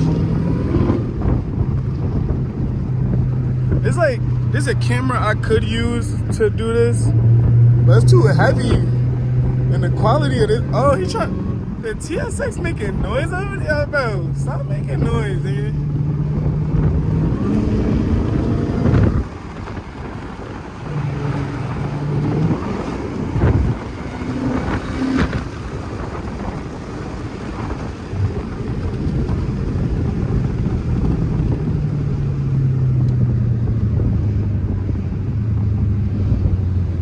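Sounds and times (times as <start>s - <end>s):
car engine hum: 0.0s - 37.0s
road noise: 0.0s - 37.0s.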